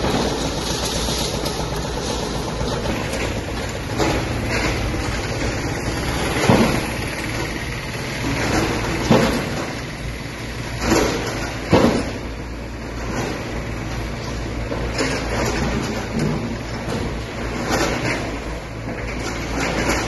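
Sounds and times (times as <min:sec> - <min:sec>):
excavator engines rumbling: 0:00.0 - 0:20.0.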